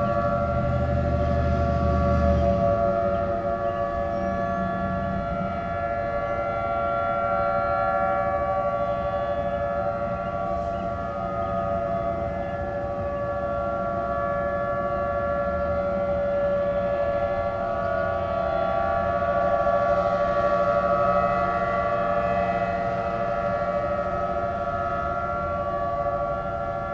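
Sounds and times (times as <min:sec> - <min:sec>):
warning sirens steady tone: 0:00.0 - 0:26.9.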